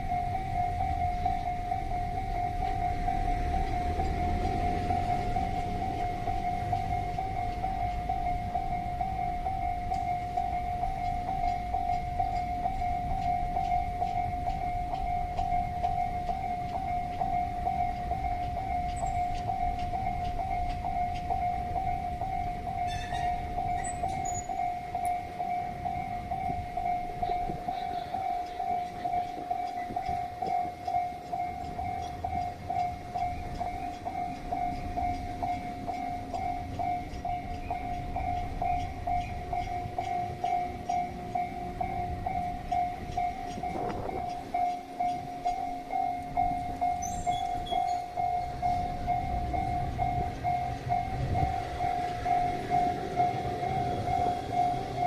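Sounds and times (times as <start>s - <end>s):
freight train rumble: 0.0s - 55.0s
level-crossing alarm bell: 0.0s - 55.0s.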